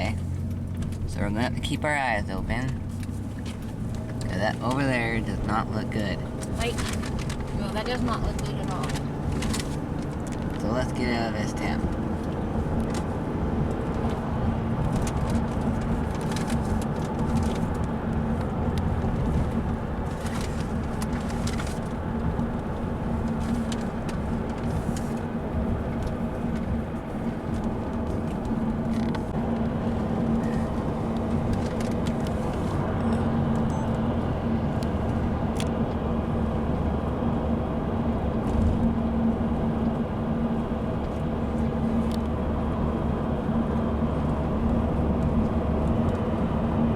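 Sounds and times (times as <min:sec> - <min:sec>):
car engine hum and road rumble: 0:00.0 - 0:46.9.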